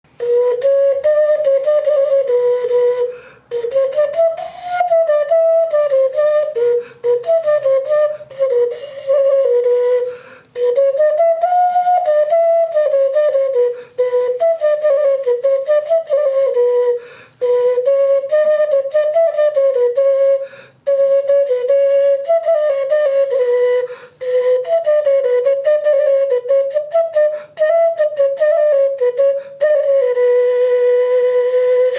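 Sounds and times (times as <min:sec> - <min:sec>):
carrot flute melody: 0:00.1 - 0:31.9.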